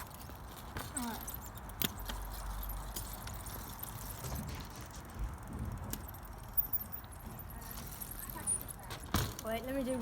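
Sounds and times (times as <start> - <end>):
bicycle chain rattle: 0.0 - 10.0
bicycle tyre rumble on tarmac: 0.0 - 10.0.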